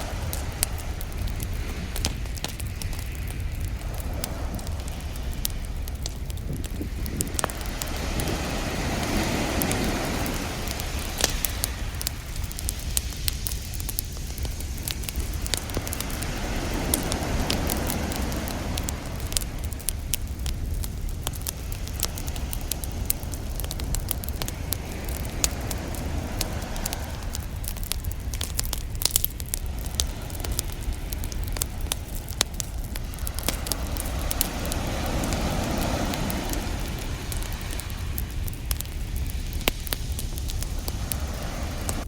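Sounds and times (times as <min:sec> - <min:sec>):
campfire crackling and popping: 0:00.0 - 0:42.0
ocean surf washing ashore: 0:00.0 - 0:42.0.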